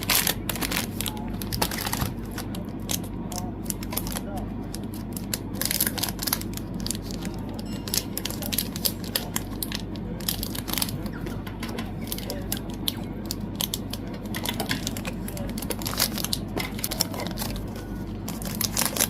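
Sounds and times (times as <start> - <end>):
packaging rustling and crinkling: 0.0 - 11.0, 13.3 - 19.0.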